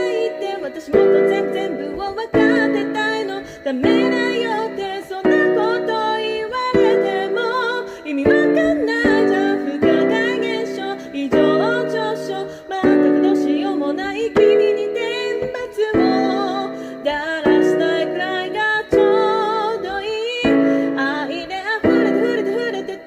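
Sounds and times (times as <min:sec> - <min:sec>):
electric keyboard piano chords: 0:00.0 - 0:23.0
woman singing: 0:00.0 - 0:23.0.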